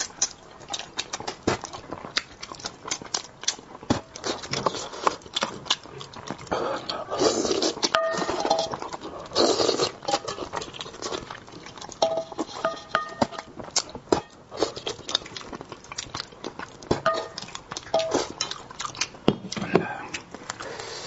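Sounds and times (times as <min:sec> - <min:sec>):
person chewing and lip smacking: 0:00.0 - 0:20.8.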